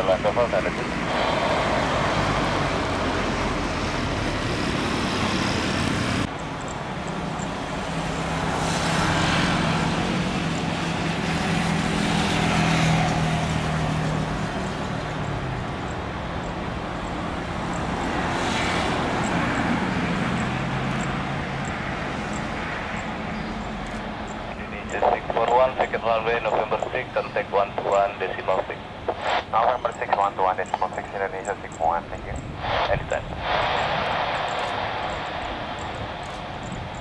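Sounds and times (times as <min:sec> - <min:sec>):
jet engines humming at taxi power: 0:00.0 - 0:37.0.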